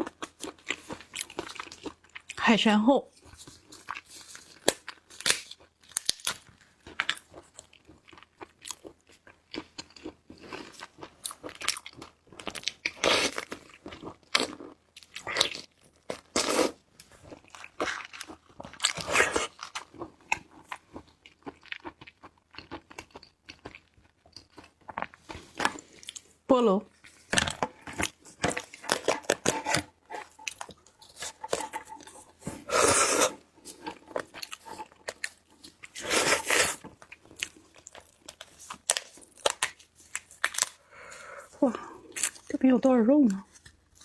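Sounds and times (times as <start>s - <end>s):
wet chewing: 3.2s - 42.6s.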